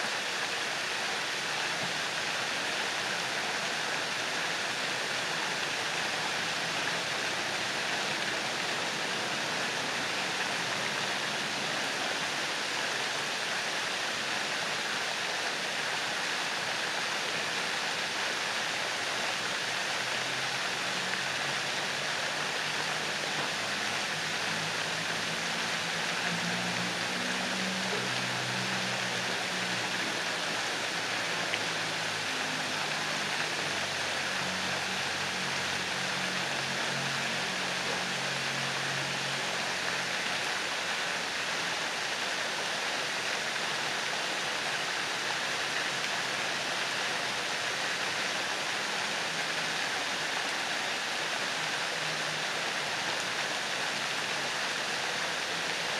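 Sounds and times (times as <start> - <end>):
fountain water splashing: 0.0 - 55.9.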